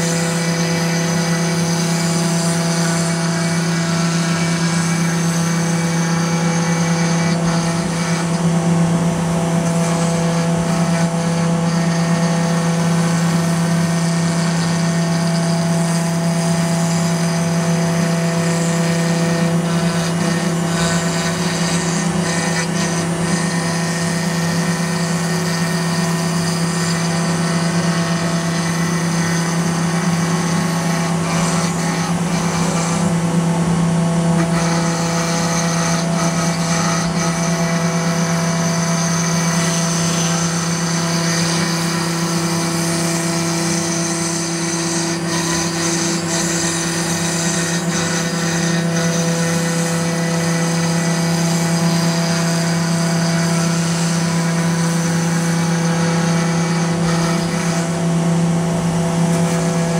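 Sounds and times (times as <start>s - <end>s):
bit rasping through wood: 0.0s - 59.9s
router spindle humming: 0.0s - 59.9s.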